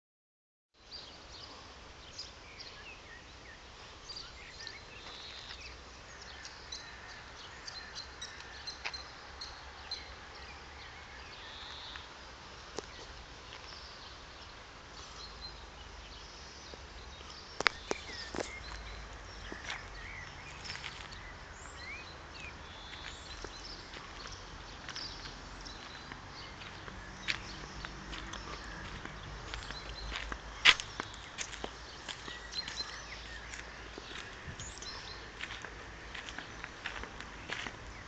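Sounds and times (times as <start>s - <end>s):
small birds chirping: 0.8s - 38.0s.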